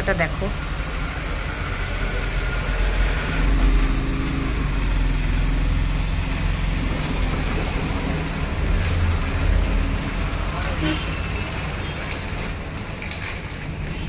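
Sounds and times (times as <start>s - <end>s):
road traffic rumble: 0.0s - 14.0s
vehicle engine hum: 0.0s - 14.0s.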